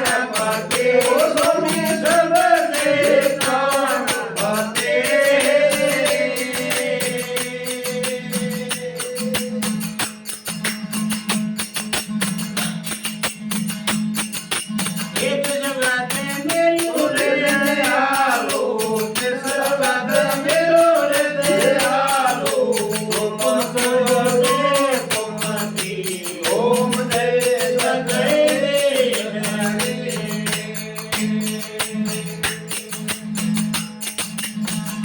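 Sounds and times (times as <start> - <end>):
fast percussion beat: 0.0 - 35.0.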